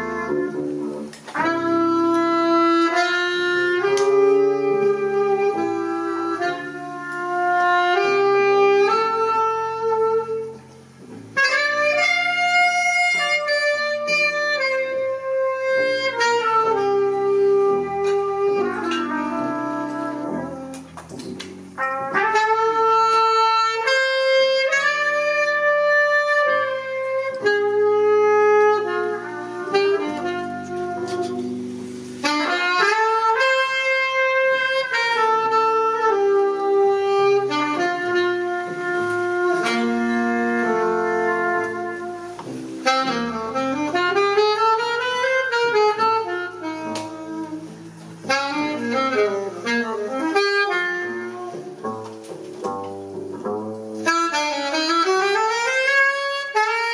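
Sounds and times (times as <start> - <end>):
double bass line: 0.0 - 56.9
jazz saxophone melody: 0.0 - 56.9.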